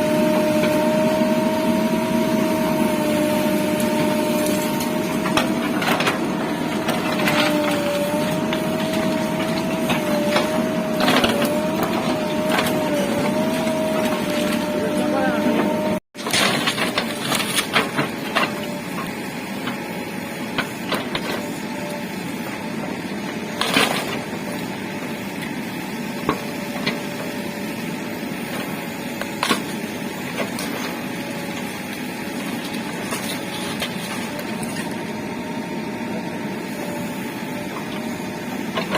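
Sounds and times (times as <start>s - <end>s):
backhoe loader engine running: 0.0s - 38.9s.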